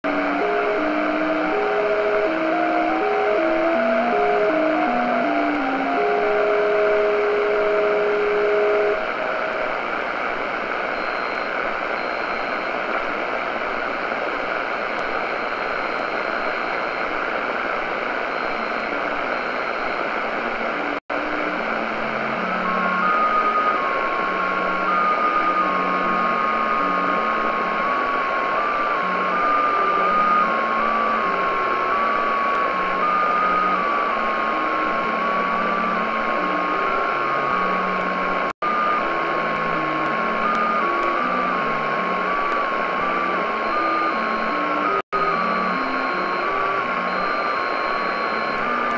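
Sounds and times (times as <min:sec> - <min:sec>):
radio hiss and static: 0:00.0 - 0:48.9.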